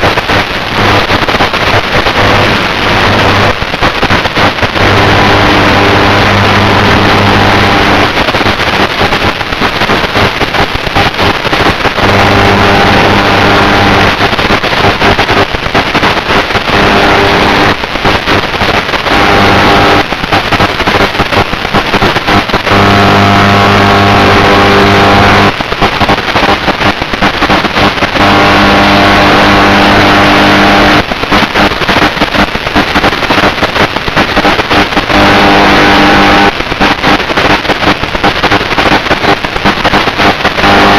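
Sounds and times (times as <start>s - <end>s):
drone propeller and wind noise: 0.0s - 40.9s.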